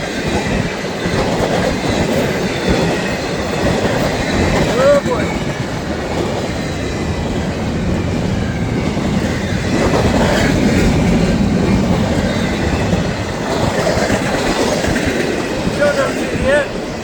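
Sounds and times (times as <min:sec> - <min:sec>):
freight train wheels rumbling: 0:00.0 - 0:17.0
train clickety-clack over rail joints: 0:00.0 - 0:17.0.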